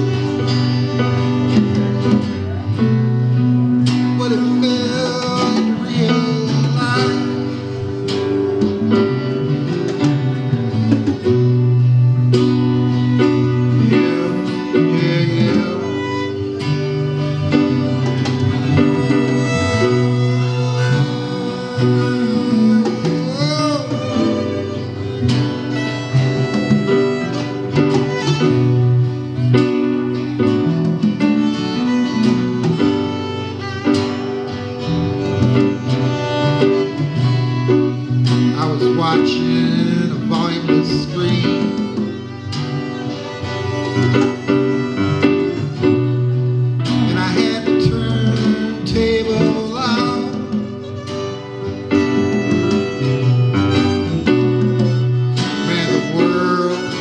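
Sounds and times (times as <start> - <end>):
strummed guitar chords: 0.0 - 57.0.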